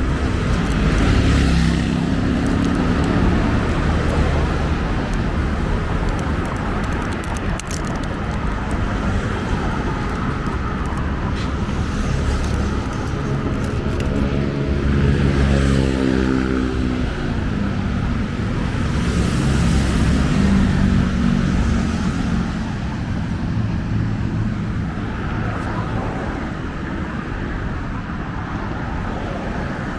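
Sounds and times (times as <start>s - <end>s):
road traffic rumbling: 0.0s - 29.9s.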